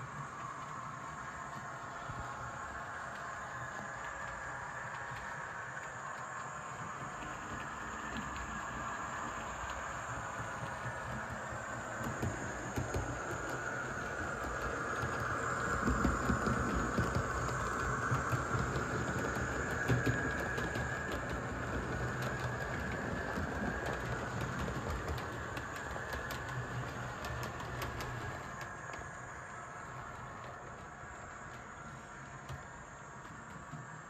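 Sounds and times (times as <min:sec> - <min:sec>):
model train motor running: 0:00.0 - 0:34.0
wheels clicking over rail joints: 0:00.0 - 0:34.0.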